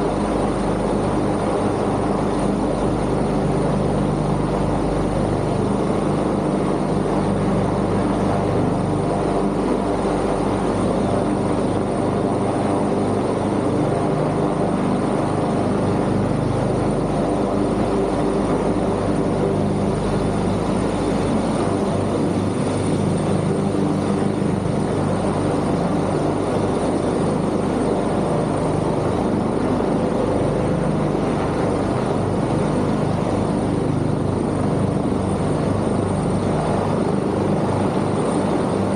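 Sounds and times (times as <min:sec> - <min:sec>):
helicopter flying past: 0:00.0 - 0:38.9.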